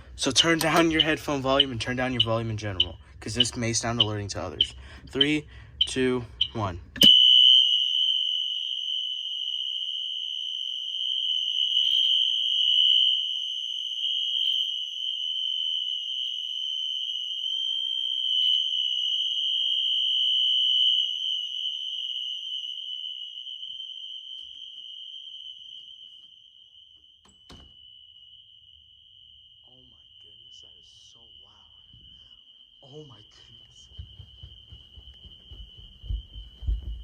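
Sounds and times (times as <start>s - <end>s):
fire alarm horn continuous tone: 0.0s - 37.0s.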